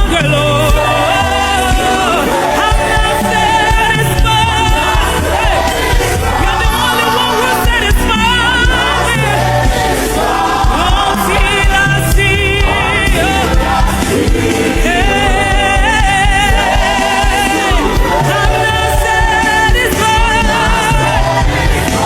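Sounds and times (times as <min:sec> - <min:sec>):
band accompaniment: 0:00.0 - 0:22.0
choir singing gospel: 0:00.0 - 0:22.0.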